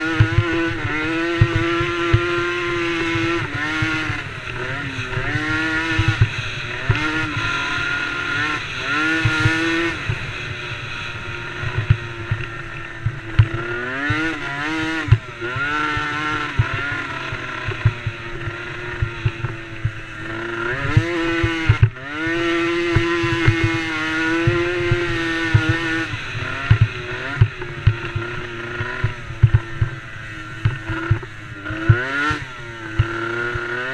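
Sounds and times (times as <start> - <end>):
quad engine revving hard: 0.0 - 33.9.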